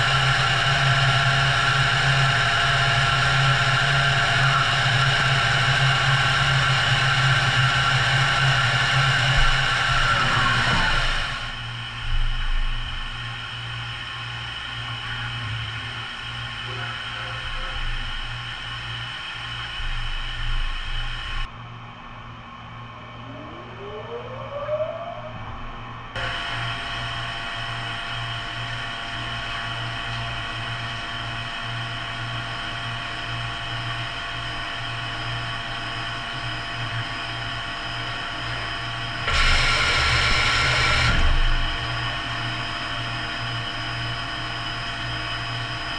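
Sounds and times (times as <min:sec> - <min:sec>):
grinding machine hum and hiss: 0:00.0 - 0:45.9.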